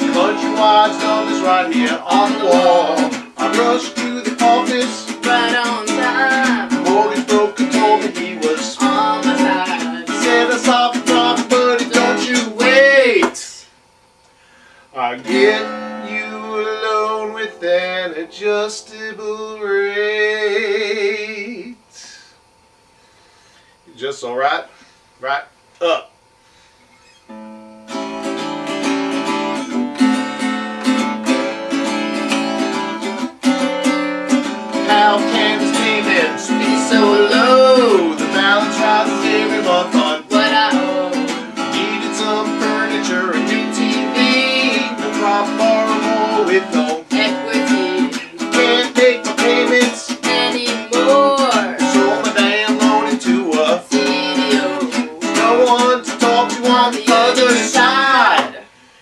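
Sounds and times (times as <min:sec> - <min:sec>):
acoustic guitar strumming: 0:00.0 - 0:13.5, 0:14.6 - 0:21.8, 0:26.9 - 0:58.6.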